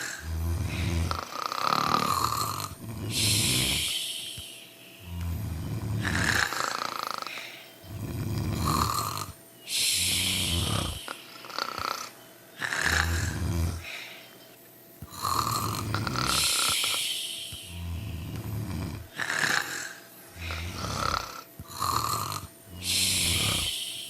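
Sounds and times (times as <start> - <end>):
deep snores: 0.0 - 14.3, 15.0 - 24.0
hissy whistling breaths: 0.0 - 24.0.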